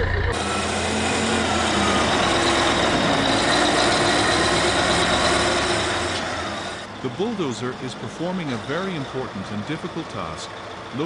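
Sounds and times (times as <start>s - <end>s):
heavy diesel machinery running: 0.0s - 11.0s.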